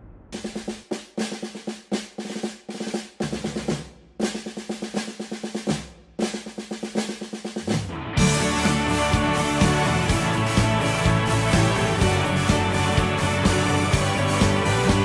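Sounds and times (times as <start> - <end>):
snare drum rolls: 0.0 - 15.0.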